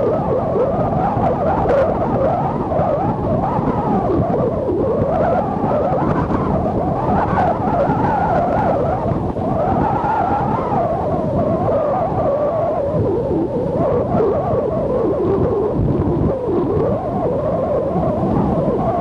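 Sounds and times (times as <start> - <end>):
strong wind howling: 0.0 - 19.0.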